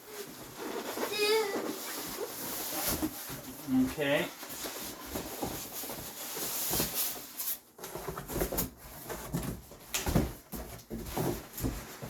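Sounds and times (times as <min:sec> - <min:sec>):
cardboard and styrofoam rubbing: 0:00.0 - 0:12.0.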